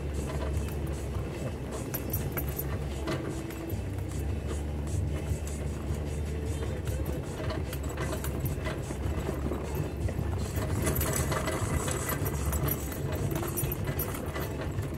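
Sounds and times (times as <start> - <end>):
car engine running: 0.0 - 14.9
small clicks and rattles: 0.0 - 14.9
tyres rolling over gravel: 0.0 - 14.9.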